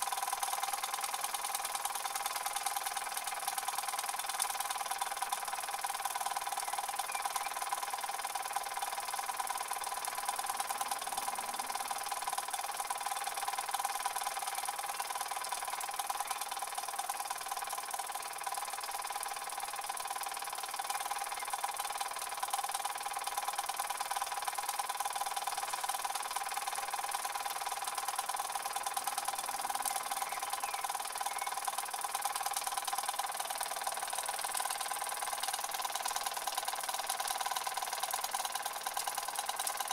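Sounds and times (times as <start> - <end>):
toy steam engines chuffing: 0.0 - 39.9.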